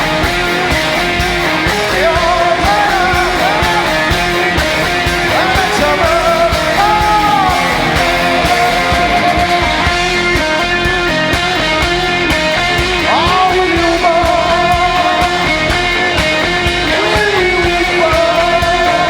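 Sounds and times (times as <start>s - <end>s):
gliding lead melody: 0.0s - 19.0s
rock song with guitars: 0.0s - 19.0s
steady drum beat: 0.0s - 19.0s.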